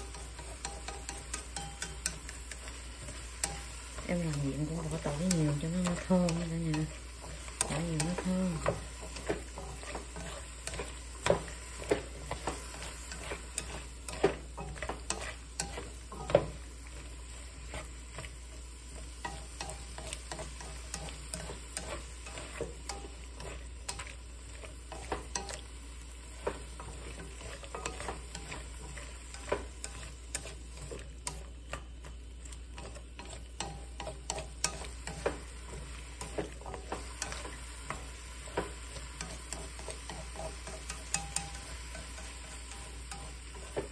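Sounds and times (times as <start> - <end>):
chopsticks scraping a pan: 0.0 - 43.9
vegetables sizzling in oil: 0.0 - 43.9.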